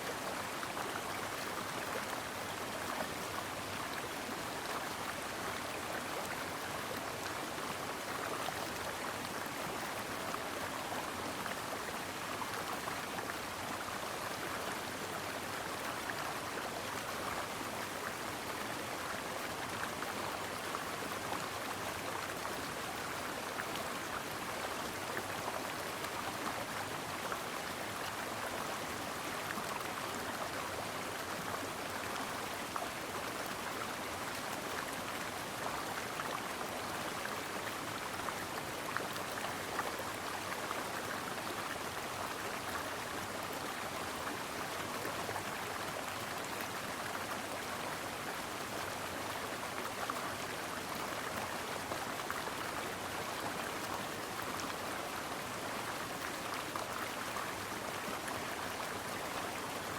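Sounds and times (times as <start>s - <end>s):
stream babbling over rocks: 0.1s - 59.9s.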